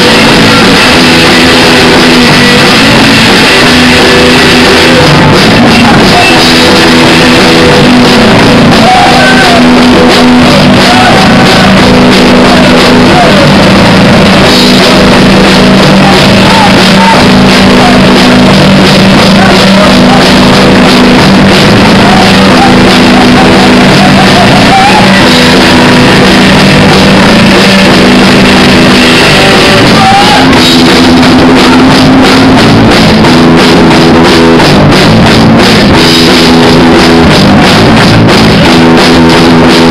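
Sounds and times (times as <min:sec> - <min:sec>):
bass guitar: 0:00.0 - 0:39.9
distorted electric guitars: 0:00.0 - 0:39.9
drum kit: 0:00.0 - 0:39.9
shouted vocals: 0:00.0 - 0:39.9.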